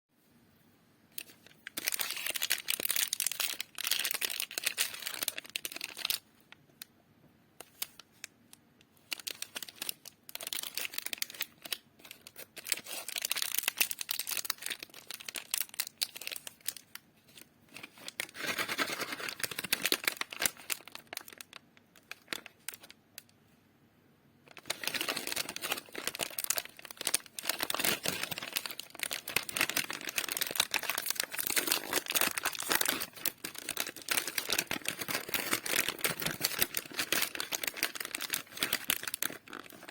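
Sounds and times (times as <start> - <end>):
snack wrappers crinkling and tearing: 1.2 - 6.3, 9.0 - 23.3, 24.5 - 39.9.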